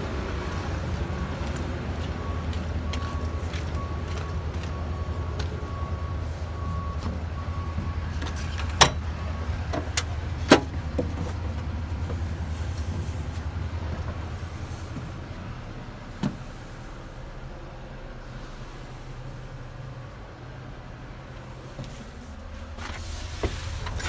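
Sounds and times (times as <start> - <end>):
low engine rumble: 0.0 - 24.0.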